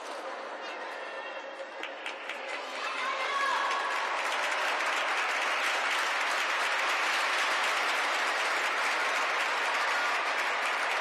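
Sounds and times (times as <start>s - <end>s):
crowd applauding: 1.8s - 11.0s.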